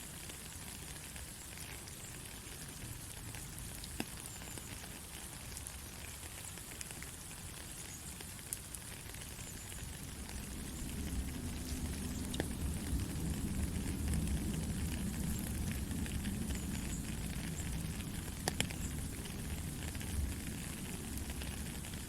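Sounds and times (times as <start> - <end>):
soft rain falling: 0.0 - 22.0.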